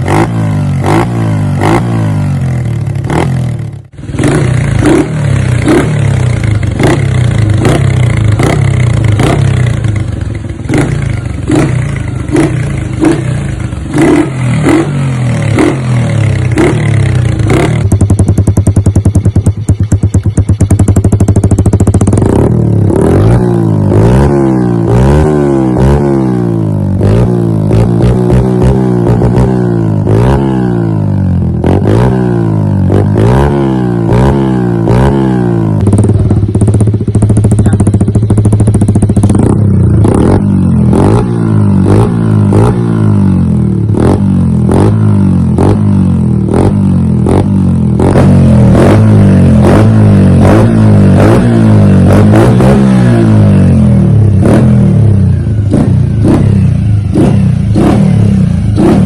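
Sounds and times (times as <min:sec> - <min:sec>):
motorcycle engine throttle blips: 0:00.0 - 0:25.0, 0:31.4 - 0:59.0.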